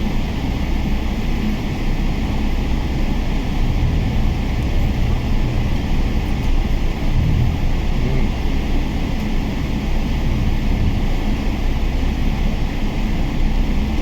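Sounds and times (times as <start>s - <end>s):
jet engine rumble in cabin: 0.0s - 14.0s.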